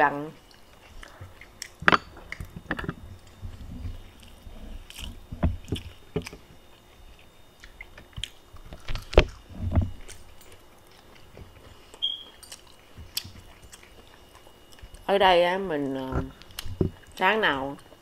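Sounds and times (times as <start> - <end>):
person chewing food: 0.4 - 15.1, 16.2 - 17.2.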